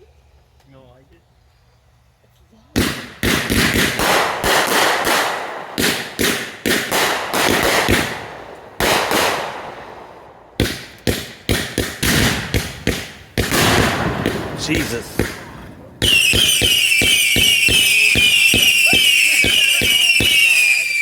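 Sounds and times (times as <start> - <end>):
fireworks bangs and crackle: 2.8 - 21.0.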